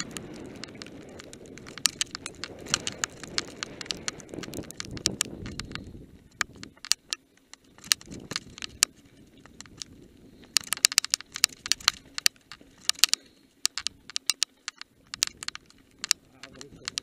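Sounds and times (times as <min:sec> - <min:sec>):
bike rattling over rocks: 0:00.0 - 0:17.0.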